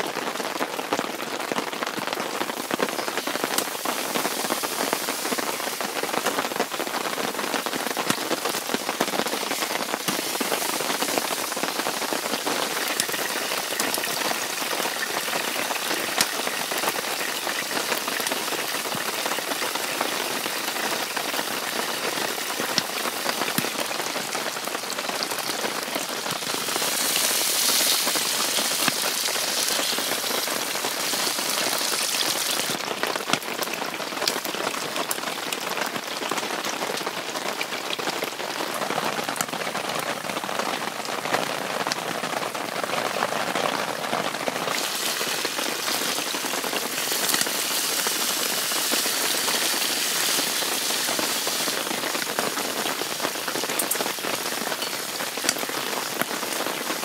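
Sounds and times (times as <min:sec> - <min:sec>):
rain pattering on tent: 0:00.0 - 0:57.0.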